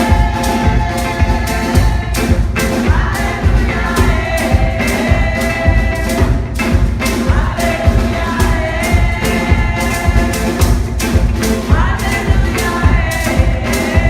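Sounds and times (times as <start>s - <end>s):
band playing: 0.0s - 14.0s
group singing gospel: 0.0s - 14.0s
steady drum beat: 0.0s - 14.0s.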